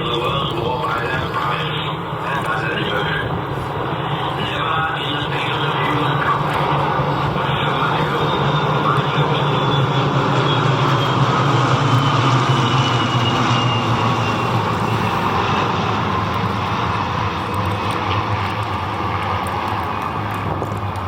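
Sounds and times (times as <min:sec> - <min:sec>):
propeller aircraft engine droning: 0:00.0 - 0:21.0.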